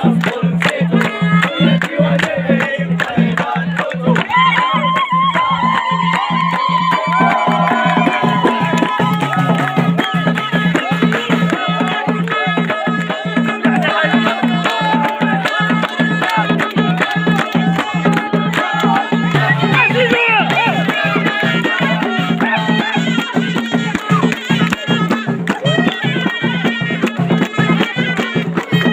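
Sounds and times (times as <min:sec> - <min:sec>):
shawm melody: 0:00.0 - 0:28.9
steady drum beat: 0:00.0 - 0:28.9.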